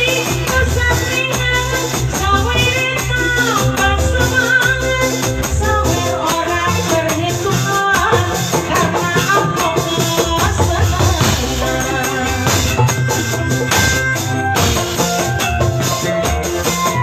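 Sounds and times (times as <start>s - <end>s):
band music: 0.0s - 17.0s
drum kit beat: 0.0s - 17.0s.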